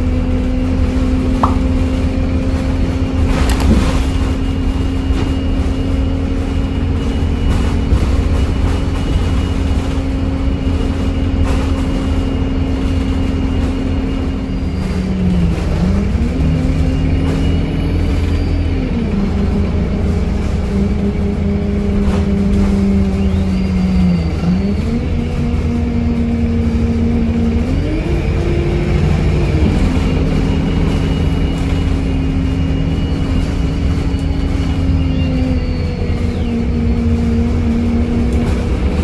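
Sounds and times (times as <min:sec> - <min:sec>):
bus diesel engine drone: 0:00.0 - 0:39.0
high whine: 0:00.0 - 0:39.0
road rumble: 0:00.0 - 0:39.0.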